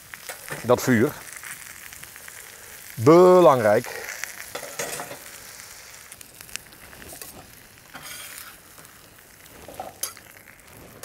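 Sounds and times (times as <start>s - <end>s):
sharp pops and crackles: 0.0s - 11.0s
vegetables sizzling on hot plate: 0.0s - 11.0s.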